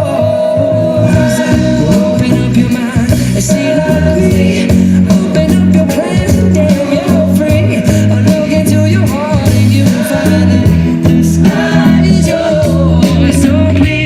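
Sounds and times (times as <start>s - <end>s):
pop song with male vocals: 0.0s - 14.0s.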